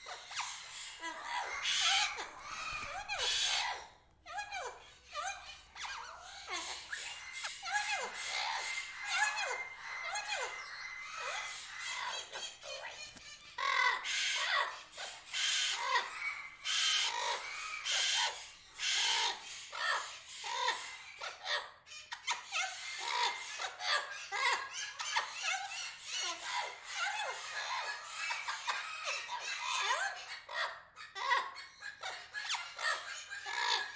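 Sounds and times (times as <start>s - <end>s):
bird screeches: 0.0s - 33.9s.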